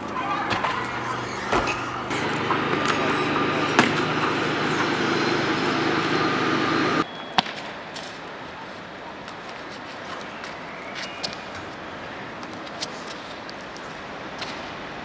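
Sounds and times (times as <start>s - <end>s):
city traffic noise: 0.0s - 15.0s
quiet street ambience: 0.0s - 15.0s.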